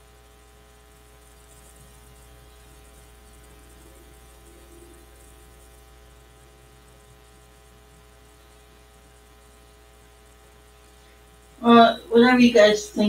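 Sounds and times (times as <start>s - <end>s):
electrical mains hum: 0.0s - 13.0s
faint buzz: 0.0s - 13.0s.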